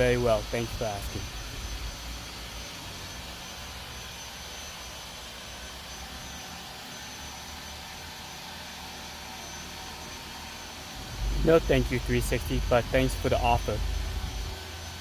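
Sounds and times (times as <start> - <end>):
robot vacuum running: 0.0 - 15.0.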